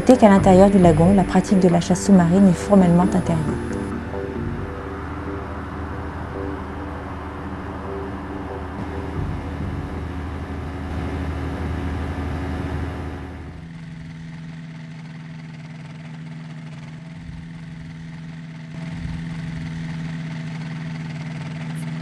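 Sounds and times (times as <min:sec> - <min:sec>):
aircraft engine and propeller droning: 0:00.0 - 0:22.0
engine humming while taxiing: 0:00.0 - 0:22.0.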